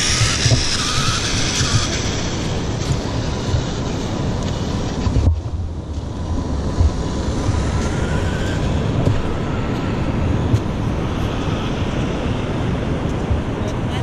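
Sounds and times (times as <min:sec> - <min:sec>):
faint motor whine: 0:00.0 - 0:14.0
wind and tyres rumbling: 0:00.0 - 0:14.0.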